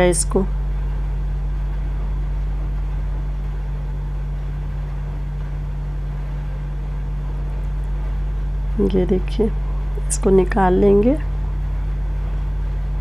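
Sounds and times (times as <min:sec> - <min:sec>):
loud steady low hum: 0:00.0 - 0:13.0.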